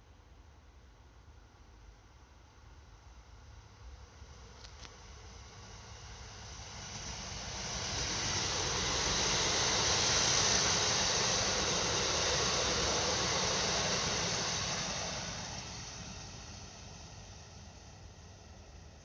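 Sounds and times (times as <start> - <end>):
passenger train passing: 2.6 - 19.0.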